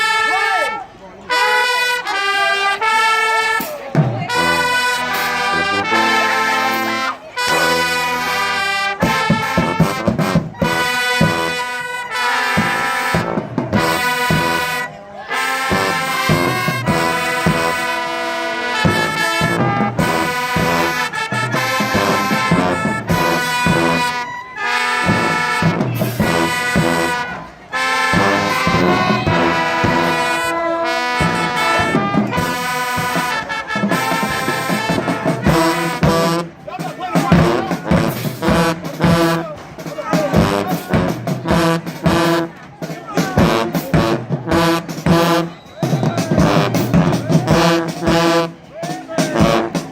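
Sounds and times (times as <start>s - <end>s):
brass band playing: 0.0s - 49.9s.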